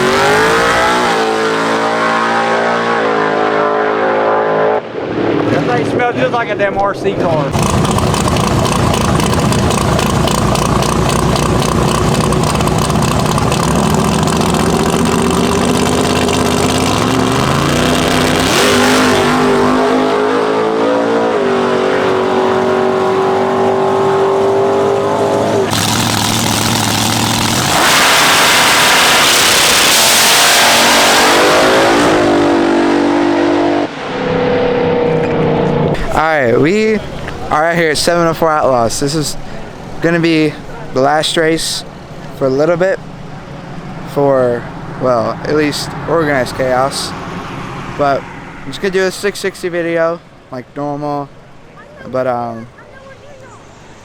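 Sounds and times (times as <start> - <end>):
loud rushing: 0.0 - 49.7
car engine revving: 0.0 - 50.5.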